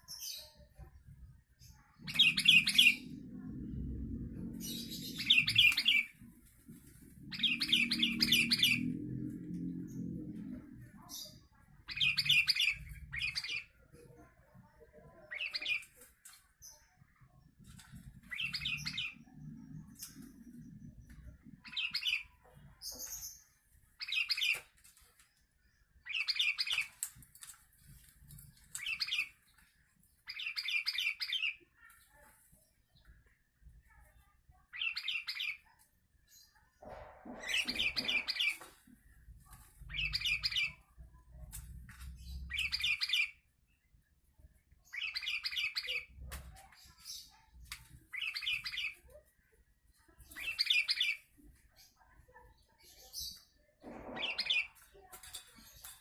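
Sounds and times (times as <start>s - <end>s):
bird chirping song: 0.0s - 49.2s, 50.0s - 56.0s.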